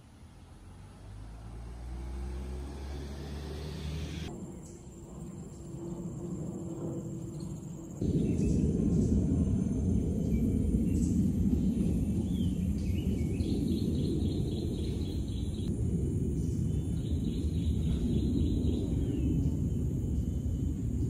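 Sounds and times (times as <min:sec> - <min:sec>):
birds chirping: 0:01.4 - 0:21.0
steady low rumble: 0:02.8 - 0:21.0.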